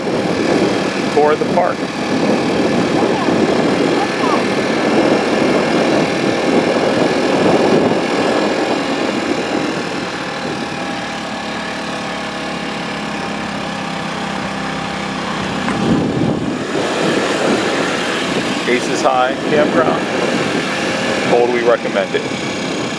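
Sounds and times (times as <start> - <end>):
motor humming: 0.0 - 22.9.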